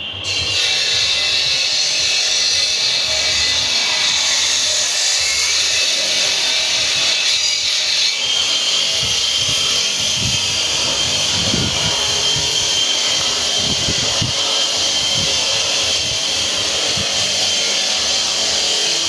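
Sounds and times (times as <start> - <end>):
power saw cutting stone: 0.0 - 19.0.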